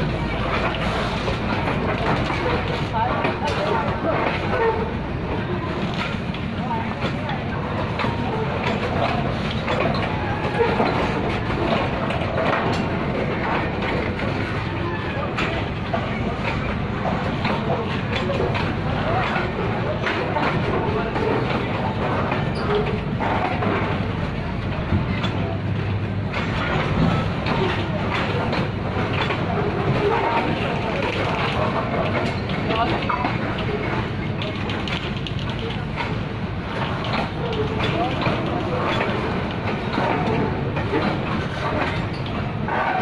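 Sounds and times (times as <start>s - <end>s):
steel wheels rumbling on rails: 0.0s - 43.0s.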